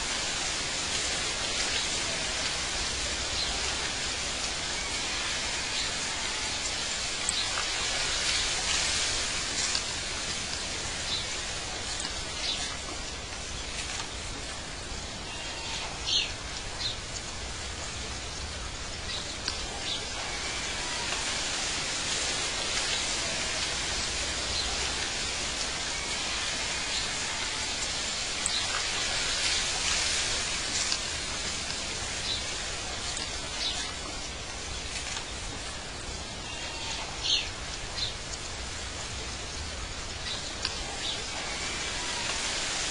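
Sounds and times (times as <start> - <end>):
steady hiss: 0.0 - 42.9.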